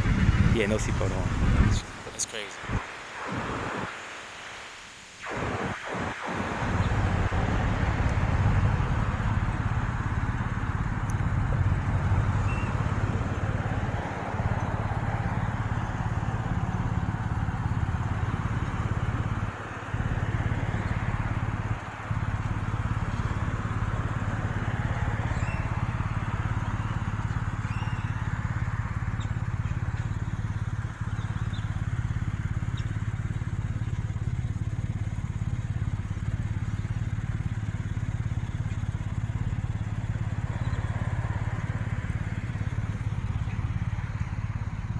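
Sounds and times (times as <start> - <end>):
traffic engine hum: 0.0 - 44.9
vehicles going by: 0.0 - 44.9.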